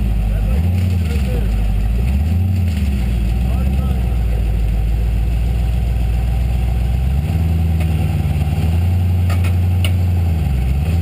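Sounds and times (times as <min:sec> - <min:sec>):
buggy engine running under load: 0:00.0 - 0:11.0.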